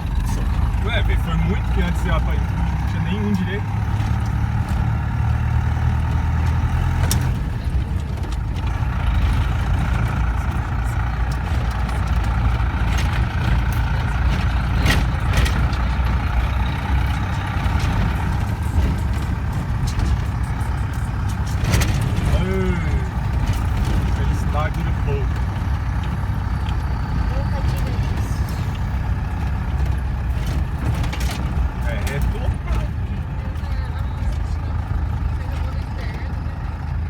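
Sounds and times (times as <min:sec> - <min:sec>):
knocks and rattles: 0:00.0 - 0:37.0
vehicle engine and road rumble: 0:00.0 - 0:37.0.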